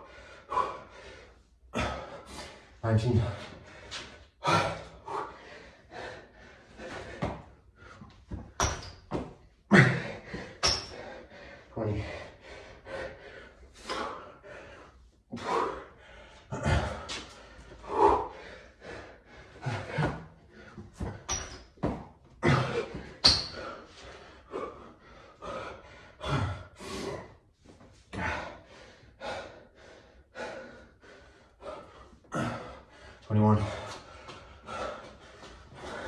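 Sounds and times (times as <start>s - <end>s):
man breathing hard: 0.0s - 8.6s, 9.5s - 21.5s, 22.4s - 36.0s.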